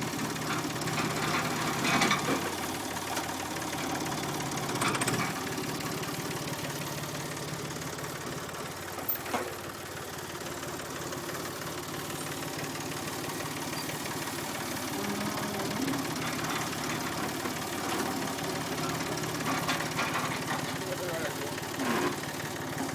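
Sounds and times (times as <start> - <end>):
tractor engine idling: 0.0 - 22.9.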